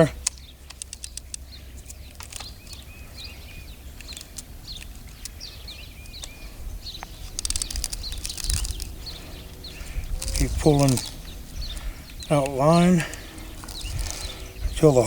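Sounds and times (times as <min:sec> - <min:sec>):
songbirds chirping: 0:00.0 - 0:15.0
steady low rumble: 0:00.0 - 0:15.0
light clicks: 0:00.2 - 0:14.7.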